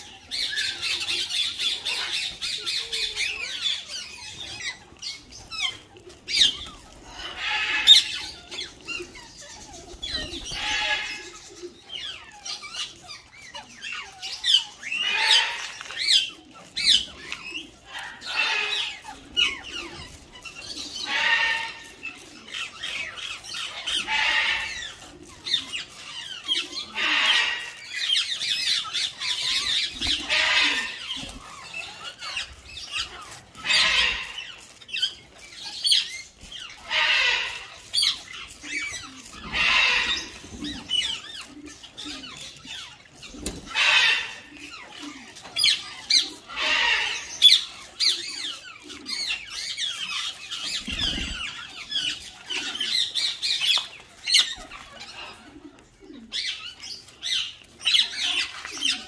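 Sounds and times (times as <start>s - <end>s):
parakeets squawking: 0.0s - 59.0s.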